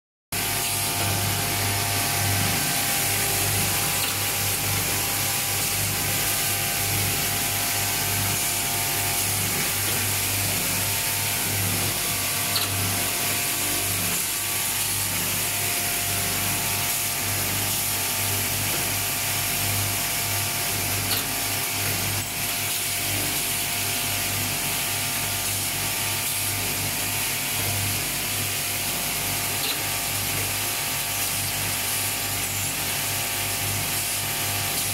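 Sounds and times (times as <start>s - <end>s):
welding machine running: 0.4s - 34.9s.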